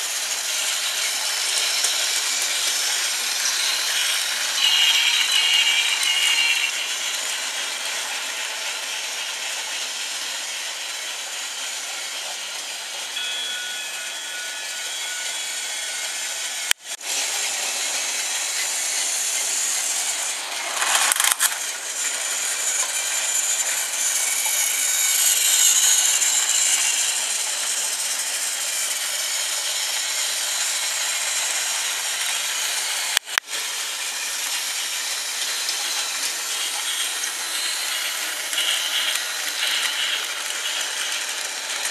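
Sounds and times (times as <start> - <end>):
toy train motors whirring: 0.0 - 41.9
toy train wheels rattling: 0.0 - 41.9.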